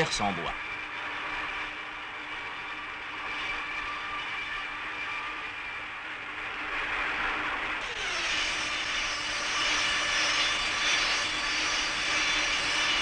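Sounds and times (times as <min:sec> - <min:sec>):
band saw machinery whining: 0:00.0 - 0:13.0.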